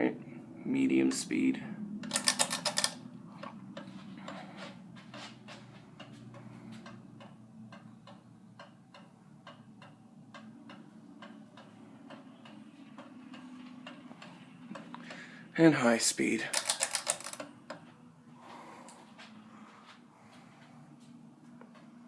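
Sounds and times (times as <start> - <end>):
ceiling fan humming and ticking: 0.0 - 22.0.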